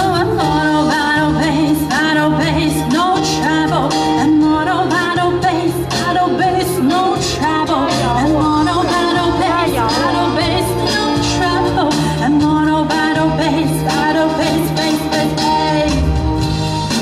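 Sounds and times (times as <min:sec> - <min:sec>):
woman singing: 0:00.0 - 0:16.4
live band playing: 0:00.0 - 0:17.0.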